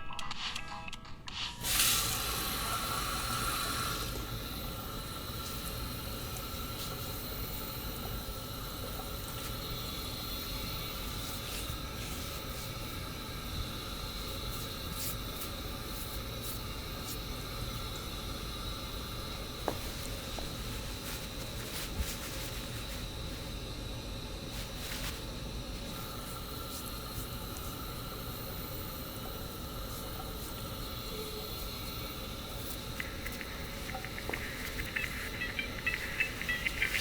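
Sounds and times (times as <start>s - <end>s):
steady hissing noise: 1.5s - 37.0s.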